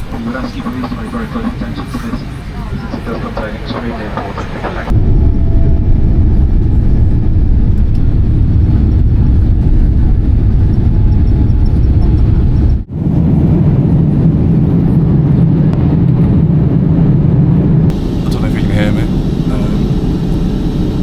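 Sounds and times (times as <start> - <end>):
jet engine and airflow rumble: 0.0 - 21.0.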